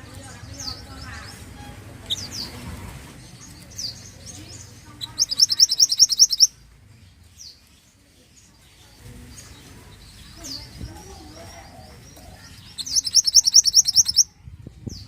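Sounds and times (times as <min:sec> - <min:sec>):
songbird chirps and trill: 0:00.0 - 0:15.0.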